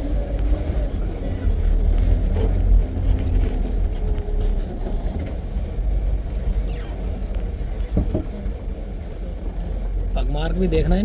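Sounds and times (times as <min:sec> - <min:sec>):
jeep engine and road rumble: 0:00.0 - 0:11.0.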